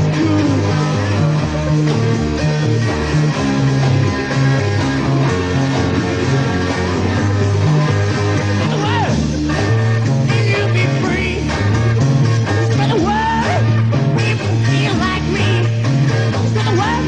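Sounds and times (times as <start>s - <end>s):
bass guitar: 0.0s - 17.0s
guitar: 0.0s - 17.0s.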